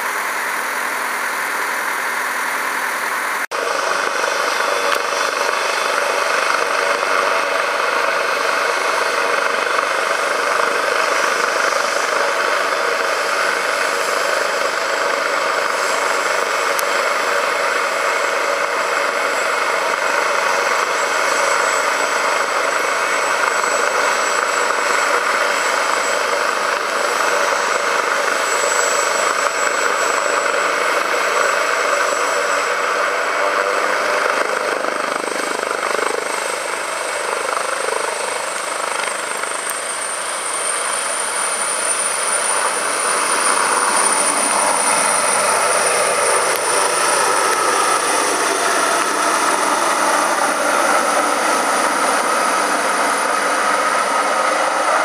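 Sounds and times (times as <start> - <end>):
helicopter rotor and turbine: 0.0 - 55.0
high turbine whine: 0.0 - 55.0.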